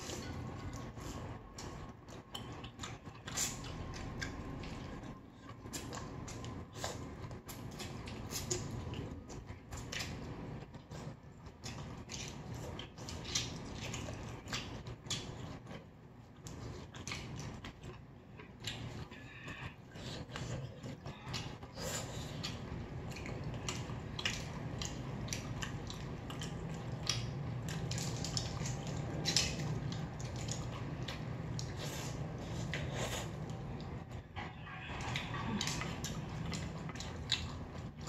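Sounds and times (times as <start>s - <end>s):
chewing: 0.0s - 38.0s.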